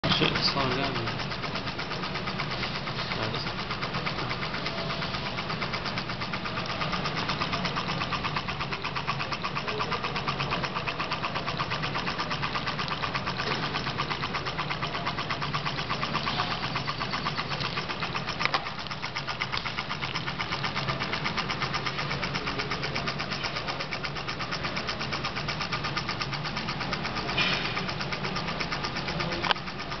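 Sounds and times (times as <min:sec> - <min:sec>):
stirling engine clattering: 0:00.0 - 0:30.0.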